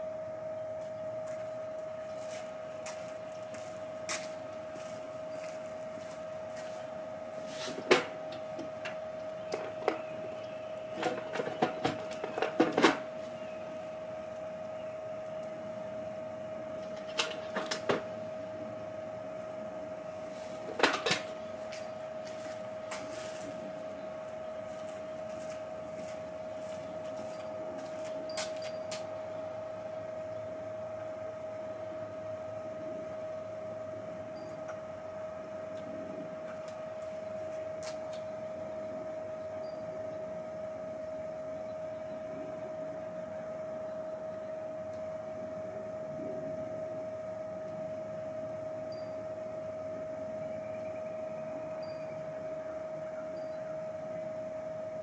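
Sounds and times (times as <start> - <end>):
high-pitched hum: 0.0 - 55.0.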